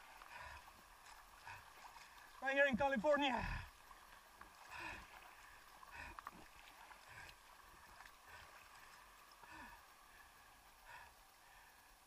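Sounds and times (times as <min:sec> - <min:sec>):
water sloshing: 0:00.0 - 0:10.7
sea water lapping and gurgling: 0:00.0 - 0:12.0.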